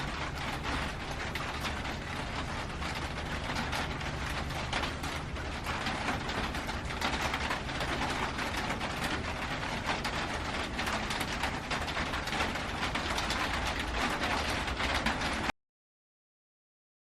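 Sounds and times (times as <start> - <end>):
heavy rain on a metal roof: 0.0 - 15.6.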